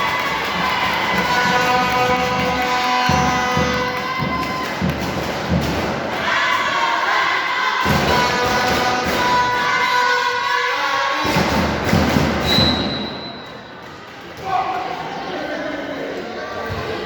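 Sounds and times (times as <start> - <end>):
crowd voices: 0.0 - 17.0.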